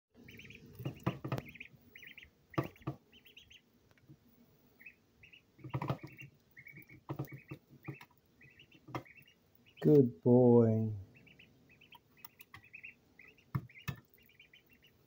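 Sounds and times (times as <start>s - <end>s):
duckling peeping: 0.2s - 15.0s.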